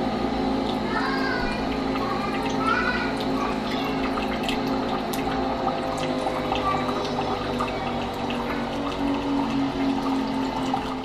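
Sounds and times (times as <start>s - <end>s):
coffee machine pump running: 0.0s - 11.0s
water pouring into mug: 0.6s - 11.0s.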